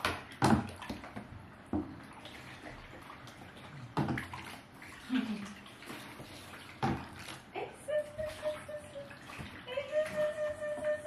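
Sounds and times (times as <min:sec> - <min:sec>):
low steady water sound: 0:00.0 - 0:11.0
water splashing in a bathtub: 0:00.0 - 0:11.0.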